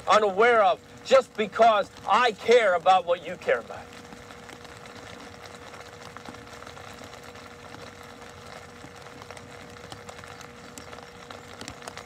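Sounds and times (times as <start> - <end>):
faint ticks: 0.1 - 12.0.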